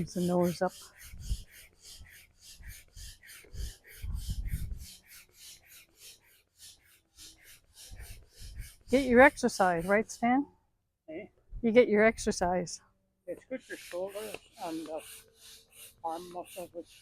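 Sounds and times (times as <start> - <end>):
hand pump air puffs: 0.0 - 10.3, 13.4 - 17.0.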